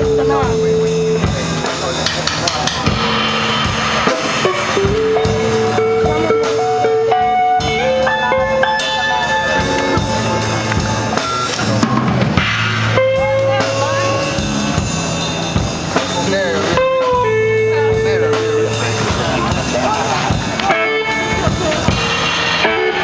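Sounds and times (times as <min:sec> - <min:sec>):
bass guitar: 0:00.0 - 0:23.0
bending lead guitar notes: 0:00.0 - 0:23.0
blues band playing: 0:00.0 - 0:23.0
drum kit beat: 0:00.0 - 0:23.0.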